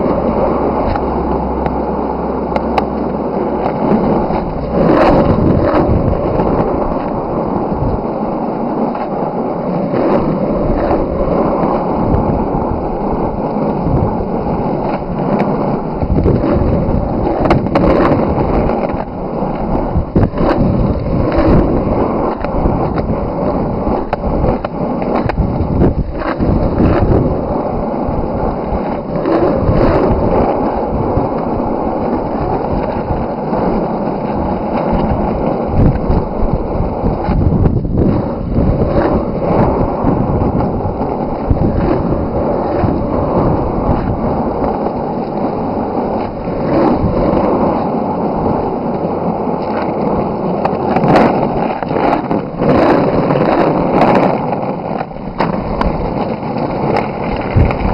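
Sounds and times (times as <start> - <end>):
skateboard clacks: 0.0 - 57.9
skateboard wheels rolling on road: 0.0 - 57.9.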